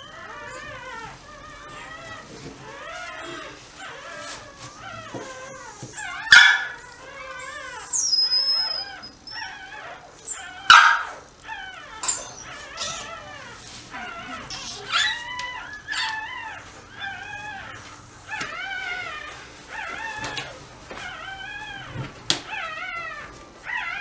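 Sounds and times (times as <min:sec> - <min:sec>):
dogs whimpering: 0:00.0 - 0:24.0.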